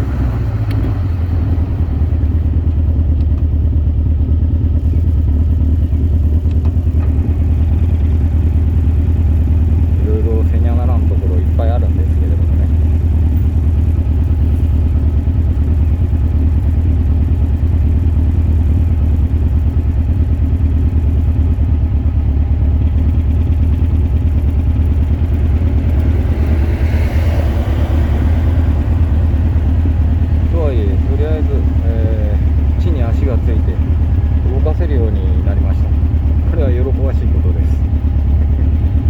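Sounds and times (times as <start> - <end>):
sports car engine droning: 0.0 - 39.0.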